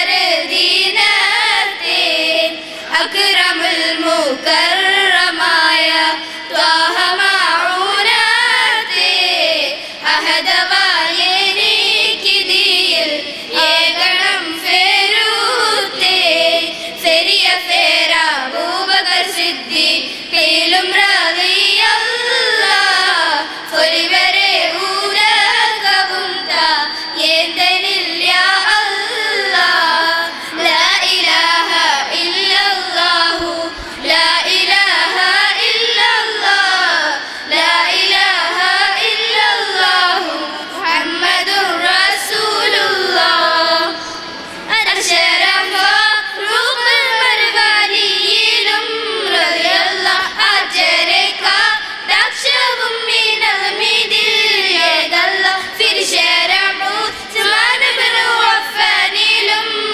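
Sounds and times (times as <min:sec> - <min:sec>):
girls singing into microphones: 0:00.0 - 0:59.9.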